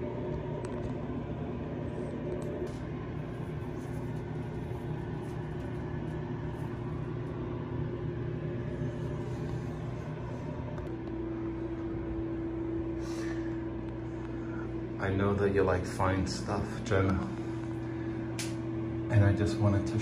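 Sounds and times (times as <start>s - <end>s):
droning tone: 0.0s - 20.0s
low machine hum: 0.0s - 20.0s.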